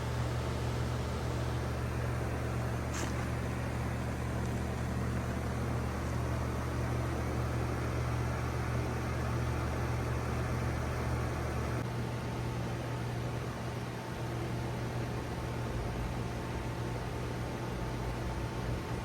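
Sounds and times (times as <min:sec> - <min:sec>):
compressor hum: 0:00.0 - 0:19.0
condenser fan air noise: 0:00.0 - 0:19.0.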